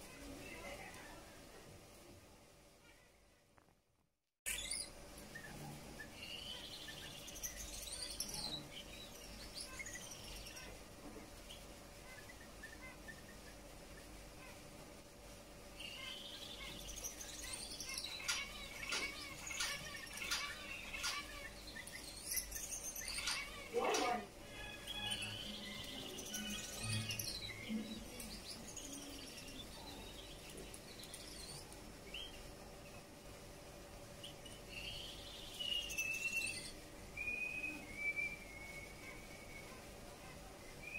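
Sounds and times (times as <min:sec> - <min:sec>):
finch singing high chirps: 0:04.5 - 0:10.8, 0:11.4 - 0:14.6, 0:15.7 - 0:33.0, 0:34.2 - 0:40.9.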